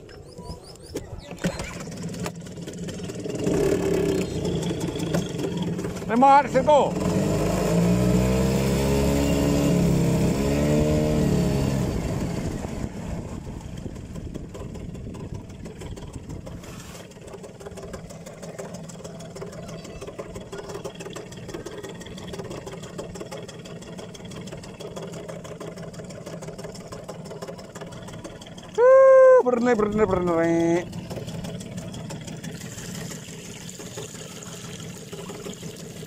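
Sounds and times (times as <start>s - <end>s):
engine running with wavering pitch: 0.0s - 36.0s.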